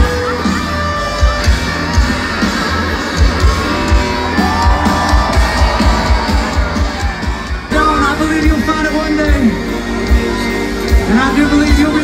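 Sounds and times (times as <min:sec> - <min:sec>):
electric guitars: 0:00.0 - 0:12.0
live band playing: 0:00.0 - 0:12.0.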